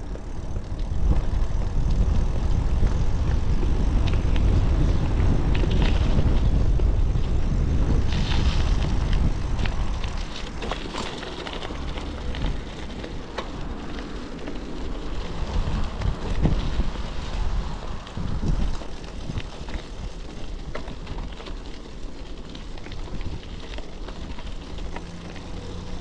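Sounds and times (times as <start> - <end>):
bike clicks and rattles: 0.0 - 26.0
wind buffeting microphone: 0.0 - 26.0.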